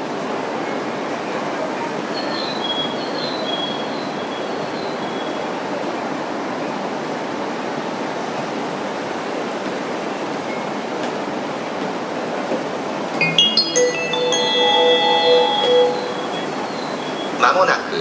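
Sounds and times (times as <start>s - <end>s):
train noise at platform: 0.0s - 18.0s.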